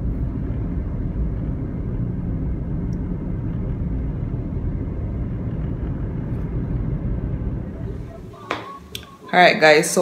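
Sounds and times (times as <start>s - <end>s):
car cabin road and engine rumble: 0.0s - 9.1s.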